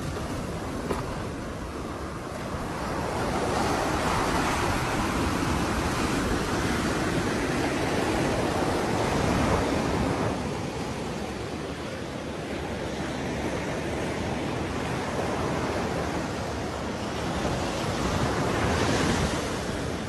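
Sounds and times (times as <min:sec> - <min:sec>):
sea waves breaking on beach: 0:00.0 - 0:20.0.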